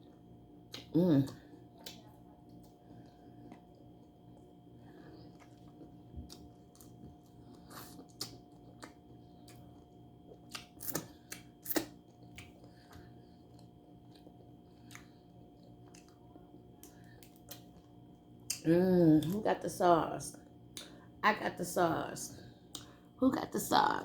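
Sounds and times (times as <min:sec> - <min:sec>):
wet chewing and smacking: 0:00.0 - 0:19.4, 0:22.6 - 0:23.0.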